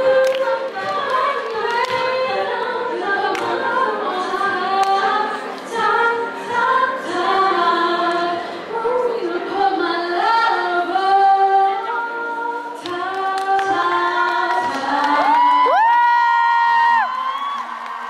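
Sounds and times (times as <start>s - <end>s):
girls singing in harmony: 0.0s - 15.7s.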